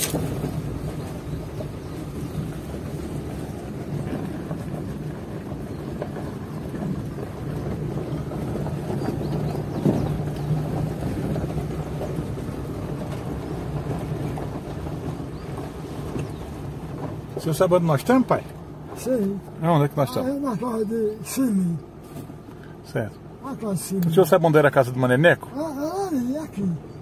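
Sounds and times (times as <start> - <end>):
low road rumble: 0.0 - 27.0
vehicle engine running: 0.0 - 27.0.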